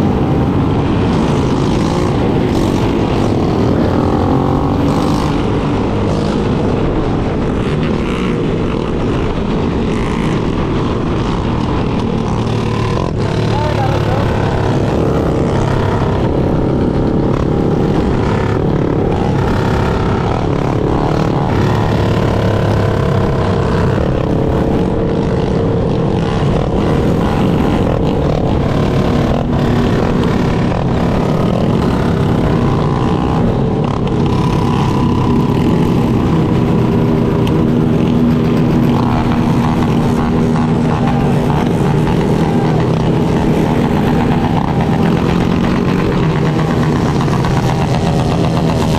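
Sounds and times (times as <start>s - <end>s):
motorcycle engine running: 0.0s - 48.9s
wind on microphone: 0.0s - 48.9s.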